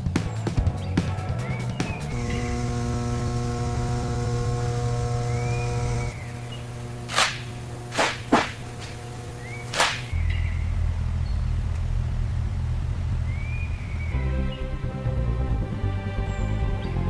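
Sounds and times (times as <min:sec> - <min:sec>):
steady low hum: 0:02.0 - 0:17.0.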